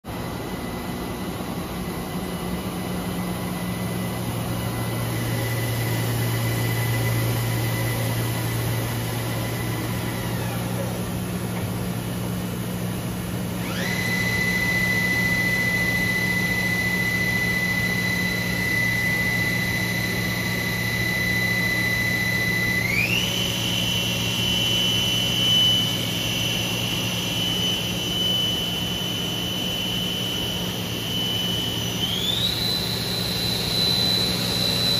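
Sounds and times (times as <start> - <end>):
low machine hum: 0.1 - 34.9
machine spindle high whine: 0.1 - 34.9.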